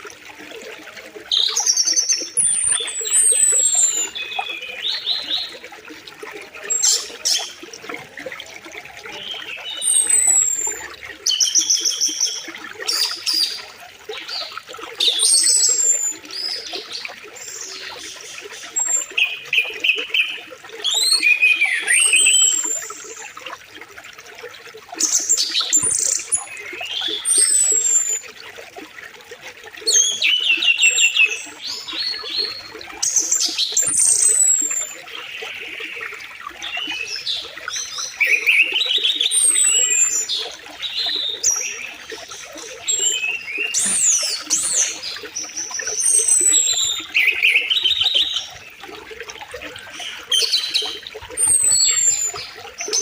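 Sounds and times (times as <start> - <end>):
birds singing and calling: 1.0 - 23.6, 24.9 - 28.3, 29.7 - 53.0.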